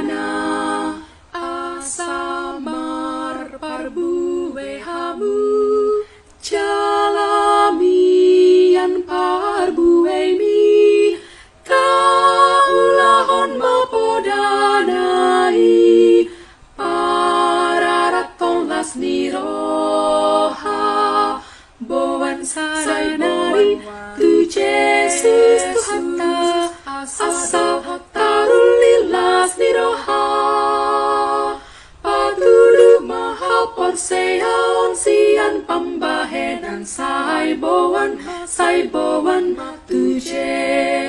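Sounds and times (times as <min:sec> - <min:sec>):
women's choir singing a hymn: 0:00.0 - 0:41.0.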